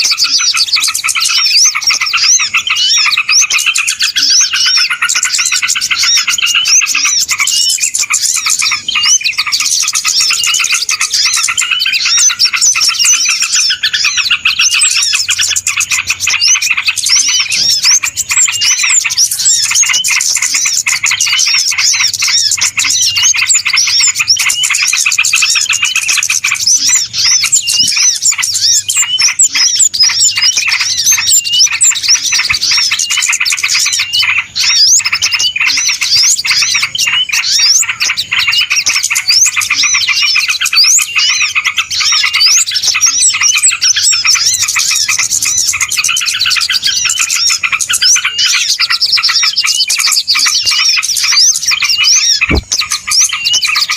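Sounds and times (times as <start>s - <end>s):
small birds chirping and twittering: 0.0s - 53.9s.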